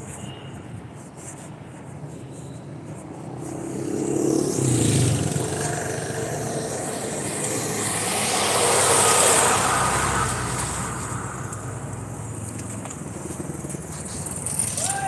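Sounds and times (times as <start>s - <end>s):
road vehicles passing: 0.0s - 15.0s.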